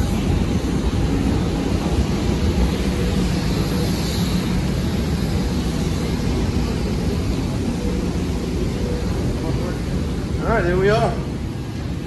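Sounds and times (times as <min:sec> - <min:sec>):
airport ground vehicles: 0:00.0 - 0:12.0
jet engines roaring: 0:00.0 - 0:12.0.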